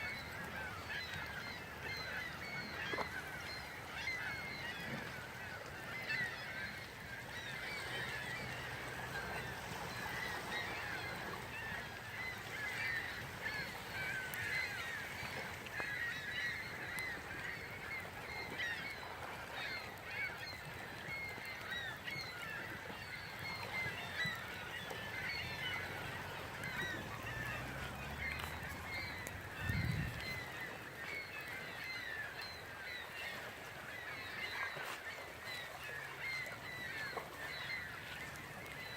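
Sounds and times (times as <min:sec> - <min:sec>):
flock of birds calling: 0:00.0 - 0:38.9.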